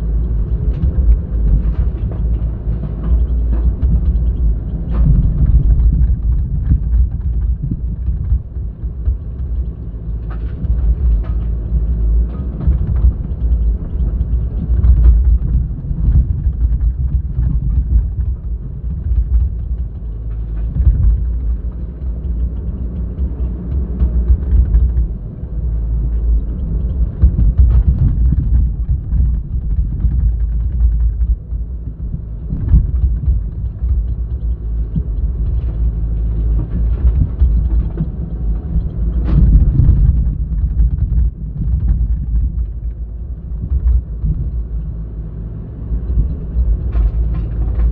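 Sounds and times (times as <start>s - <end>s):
heavy diesel engines rumbling: 0.0s - 47.9s.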